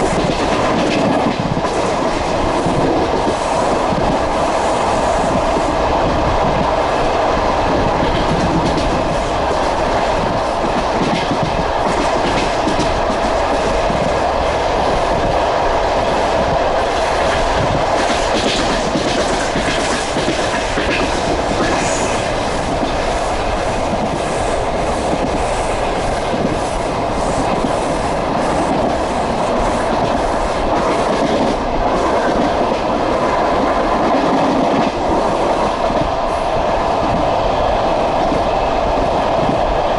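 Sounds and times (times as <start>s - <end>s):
train carriage rumbling: 0.0s - 39.9s.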